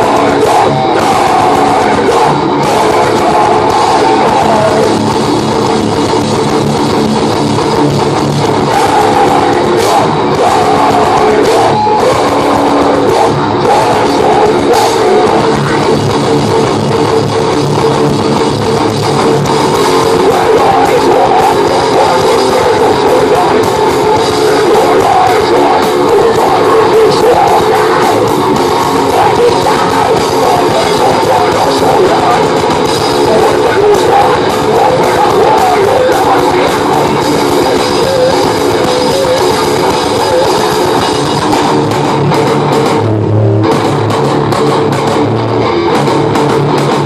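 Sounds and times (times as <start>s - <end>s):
metal band playing live: 0.0s - 47.0s.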